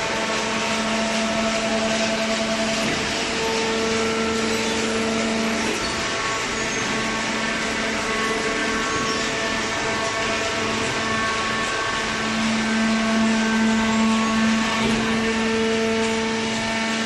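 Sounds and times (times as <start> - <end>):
baler machine running: 0.0 - 17.0
machine hum: 0.0 - 17.0.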